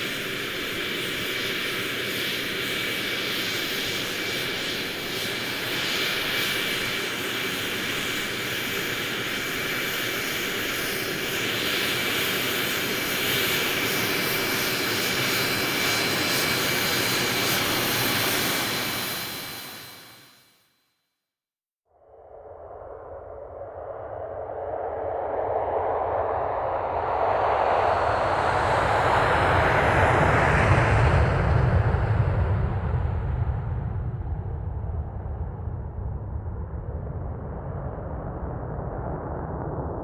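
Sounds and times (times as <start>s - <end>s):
jet airplane engine running: 0.0s - 20.3s, 26.3s - 38.8s.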